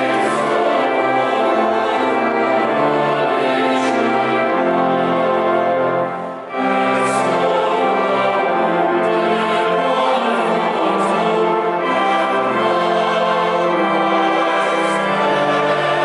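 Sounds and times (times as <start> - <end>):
choir singing a hymn: 0.0 - 16.0
organ accompaniment: 0.0 - 16.0.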